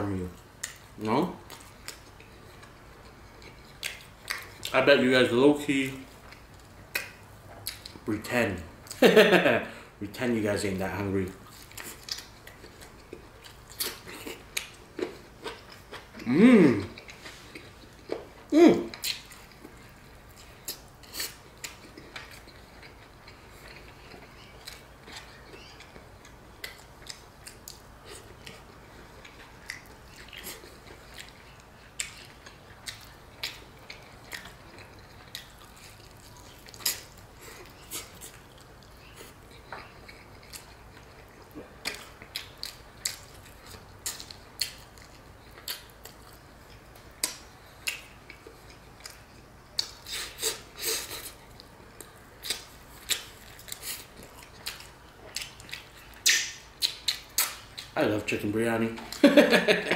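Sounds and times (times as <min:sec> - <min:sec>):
faint low hum: 0:00.0 - 0:59.9
chewing and lip smacks: 0:00.6 - 0:04.8, 0:06.2 - 0:08.1, 0:11.3 - 0:58.0.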